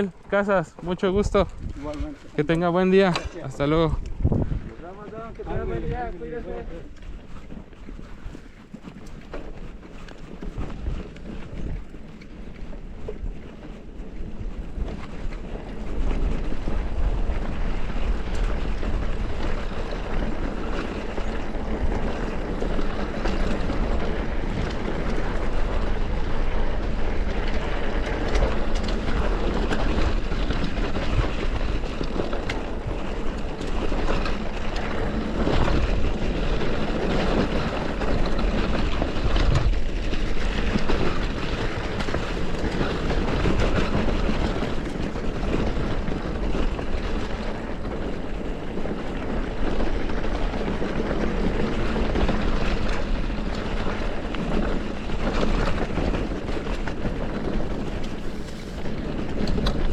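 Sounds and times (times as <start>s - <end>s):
bike rattling over dirt trail: 0.0s - 59.9s
wind over microphone: 0.0s - 59.9s.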